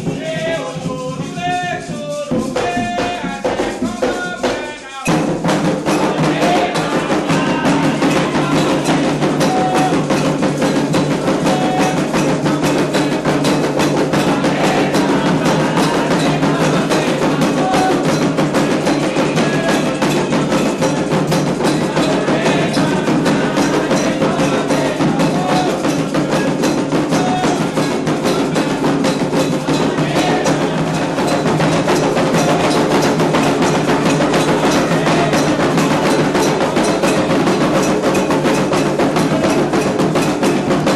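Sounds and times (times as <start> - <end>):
hand drums playing fast rhythm: 0.0 - 40.9.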